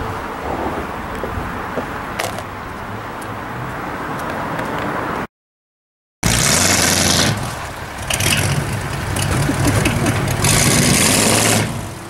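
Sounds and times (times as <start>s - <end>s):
car engine and road noise: 0.0s - 5.3s, 6.2s - 12.0s.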